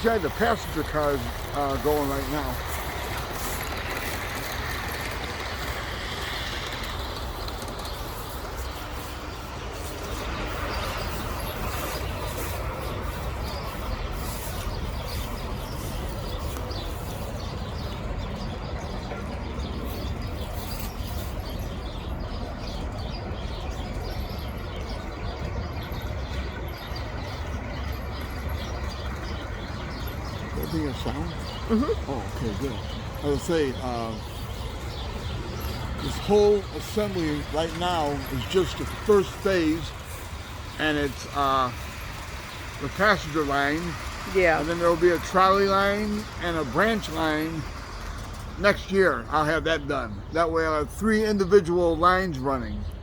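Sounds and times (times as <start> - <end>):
model train rumbling: 0.0 - 20.4, 27.0 - 52.6
wheels clicking on rails: 0.0 - 53.0.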